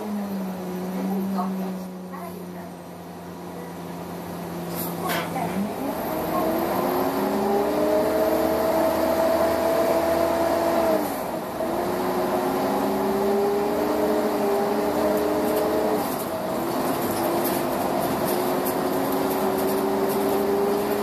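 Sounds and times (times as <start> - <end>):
bus diesel engine pulling away: 0.0 - 21.0.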